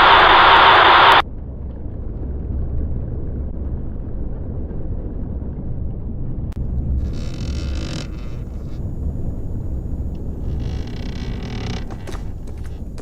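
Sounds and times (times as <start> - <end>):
deep thunder rumble: 0.0 - 13.0.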